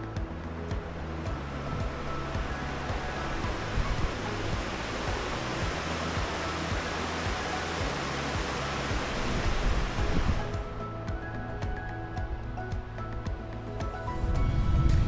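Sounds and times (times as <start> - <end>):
soft background music: 0.0 - 15.0
steady rushing noise: 0.0 - 15.0.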